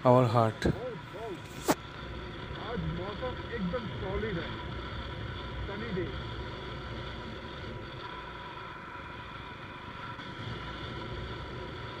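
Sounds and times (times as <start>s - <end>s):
motorcycle engine drone: 0.0s - 12.0s.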